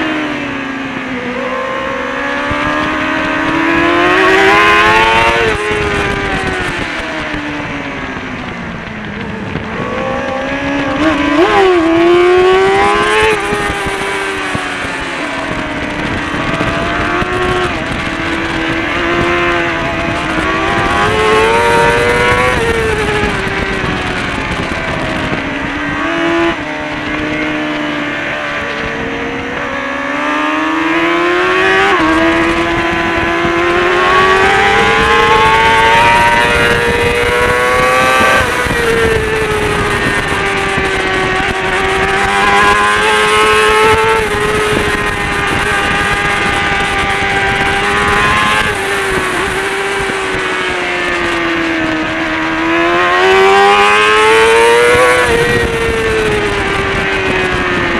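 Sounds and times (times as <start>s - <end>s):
race bike engine revving: 0.0s - 57.9s.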